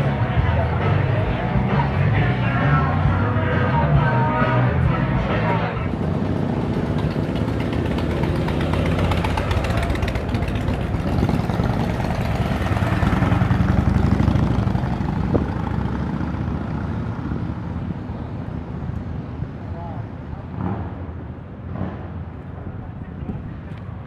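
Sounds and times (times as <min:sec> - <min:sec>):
motorcycle engines idling: 0:00.0 - 0:24.0.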